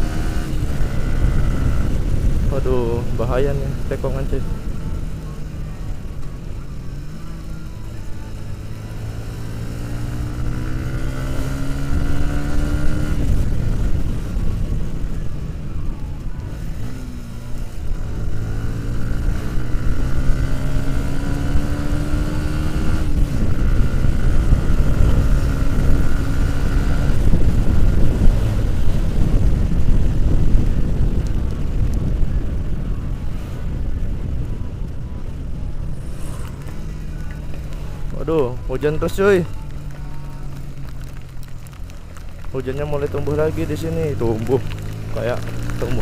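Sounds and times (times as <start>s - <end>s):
wind noise on microphone: 0.0s - 6.7s, 9.8s - 46.0s
motorcycle engine accelerating: 0.0s - 46.0s.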